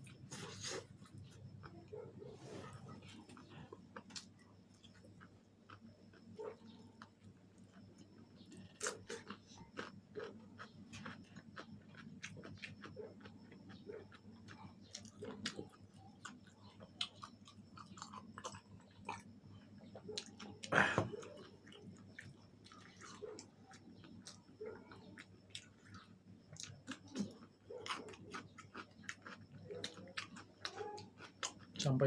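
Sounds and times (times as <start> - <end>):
chewing crunchy chicken: 0.0 - 32.0.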